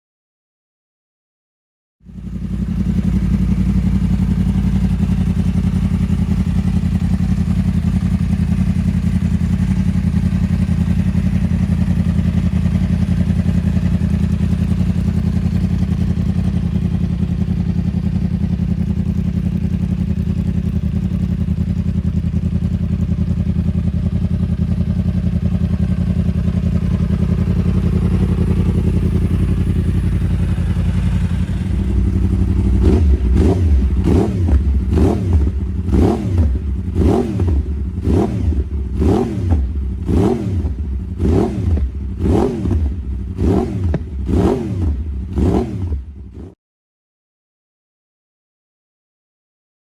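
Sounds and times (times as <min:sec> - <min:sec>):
motorcycle engine idling: 0:02.0 - 0:46.6.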